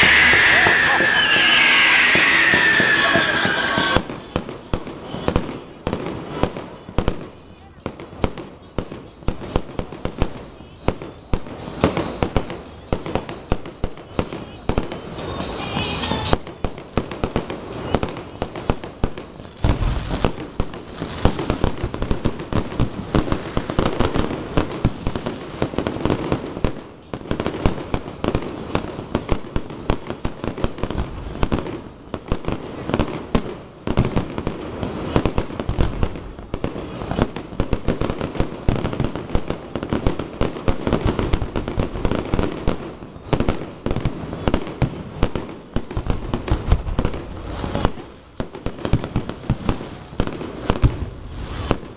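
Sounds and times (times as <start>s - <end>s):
fireworks bursts and crackling: 0.0s - 51.9s.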